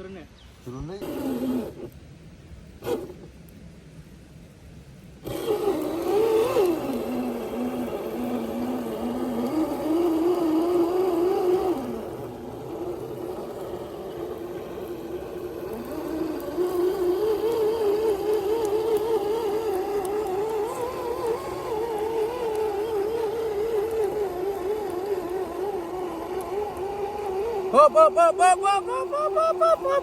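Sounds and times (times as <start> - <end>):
small electric motor whining: 1.0 - 2.0, 2.8 - 3.3, 5.2 - 30.0.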